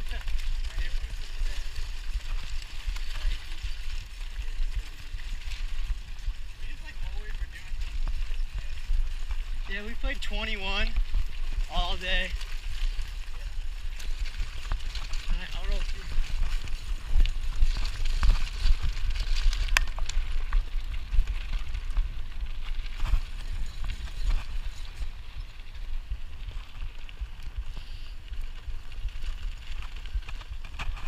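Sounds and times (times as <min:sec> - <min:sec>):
bike tyres crunching on gravel: 0:00.0 - 0:31.0.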